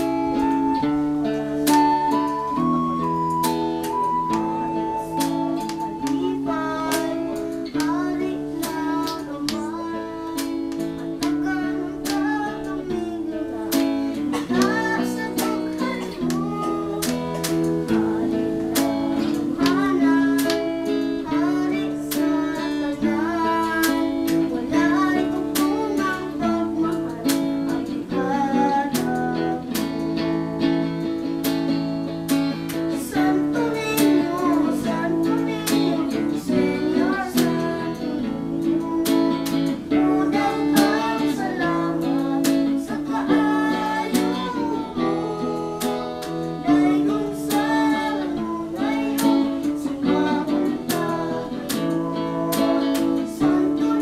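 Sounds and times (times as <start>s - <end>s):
man singing: 0.0s - 30.3s, 32.7s - 54.0s
boy singing: 0.0s - 54.0s
strummed acoustic guitar: 0.0s - 54.0s.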